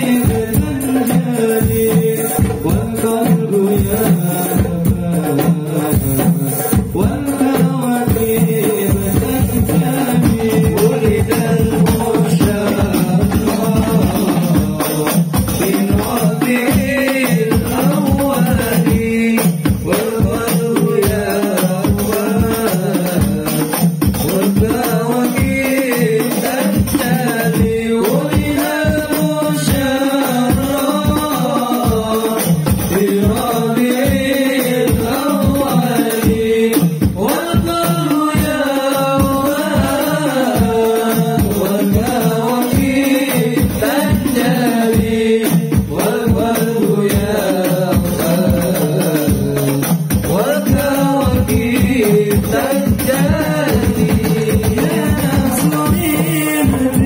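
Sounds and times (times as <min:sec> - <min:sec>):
man singing through microphone: 0:00.0 - 0:57.0
steady drum beat: 0:00.0 - 0:57.0.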